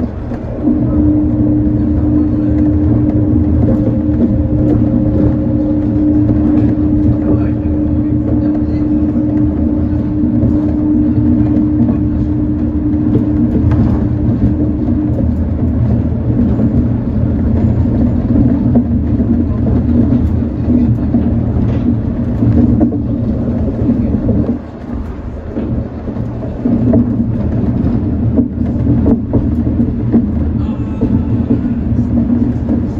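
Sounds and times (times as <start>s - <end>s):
humming motor tone: 0.0s - 32.9s
monorail car rumbling: 0.0s - 32.9s.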